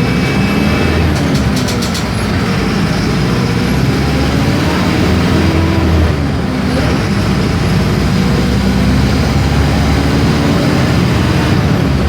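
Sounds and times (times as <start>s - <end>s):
bus diesel engine drone: 0.0s - 12.0s
road noise: 0.0s - 12.0s.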